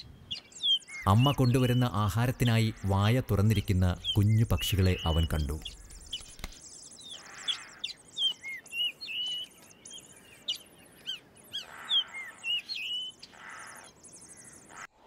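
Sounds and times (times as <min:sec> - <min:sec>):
high bird trilling: 0:00.0 - 0:14.9
birds chirping: 0:00.0 - 0:15.0.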